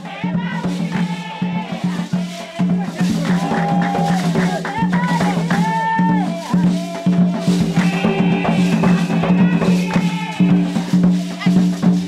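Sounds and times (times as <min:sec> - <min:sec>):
rhythmic drumming: 0:00.0 - 0:12.0
voices singing: 0:00.0 - 0:12.0.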